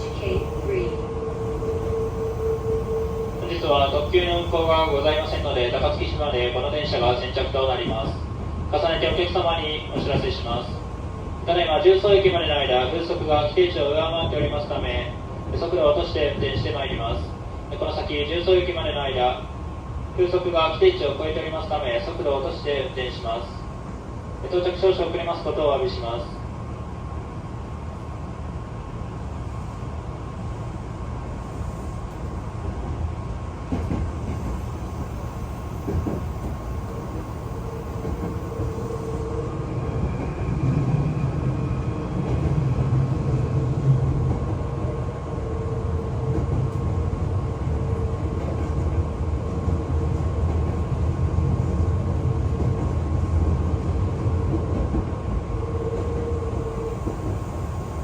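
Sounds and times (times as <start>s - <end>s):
train wheels rumbling: 0.0s - 19.4s, 29.4s - 58.0s.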